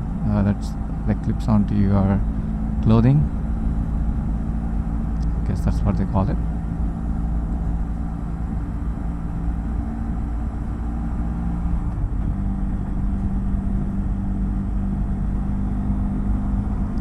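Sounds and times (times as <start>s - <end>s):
motorcycle engine droning: 0.0s - 17.0s
road and wind rumble: 0.0s - 17.0s.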